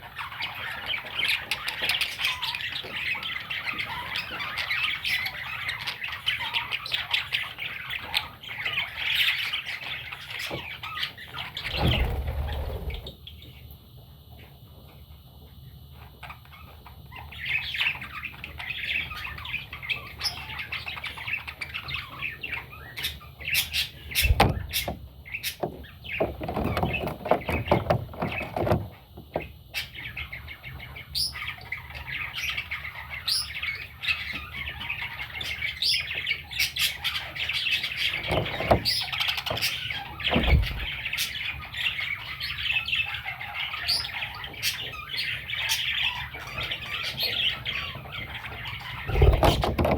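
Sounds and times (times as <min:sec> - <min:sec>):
baby budgerigars chirping: 0:00.0 - 0:13.5, 0:16.0 - 0:49.9.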